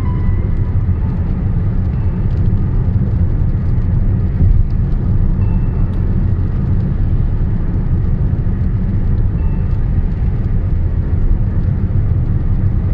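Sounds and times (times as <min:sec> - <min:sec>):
car road and wind rumble: 0:00.0 - 0:12.9.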